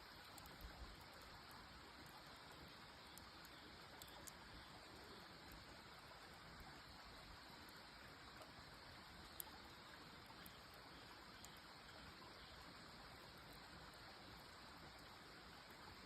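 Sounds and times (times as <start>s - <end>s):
burning wood crackles: 0.0s - 15.8s
faint campfire hiss: 0.0s - 16.0s.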